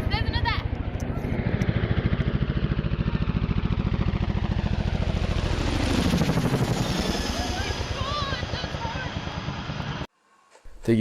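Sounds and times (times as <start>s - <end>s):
helicopter rotor blades beating: 0.0s - 10.1s.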